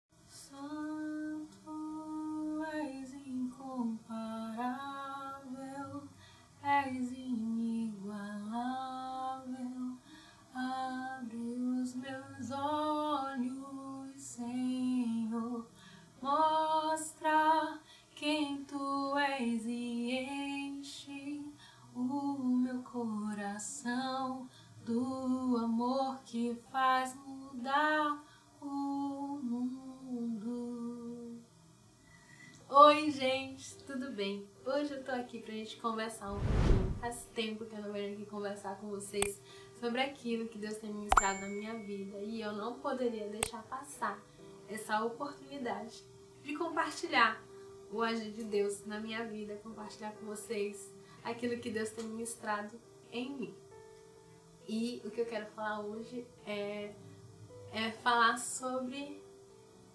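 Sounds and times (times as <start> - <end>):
woman singing unaccompanied: 0.3 - 31.5, 32.6 - 36.3, 37.0 - 53.6, 54.6 - 57.0, 57.6 - 59.2.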